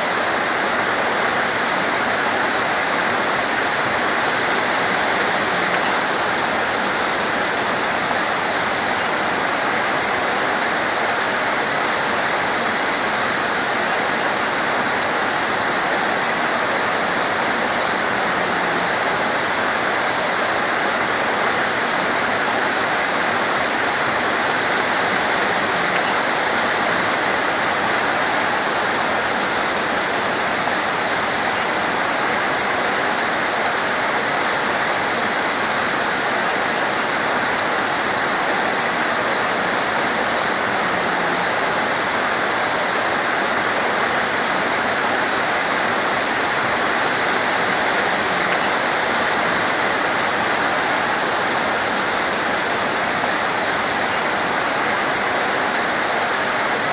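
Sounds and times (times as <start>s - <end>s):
torrential rain: 0.0s - 56.9s.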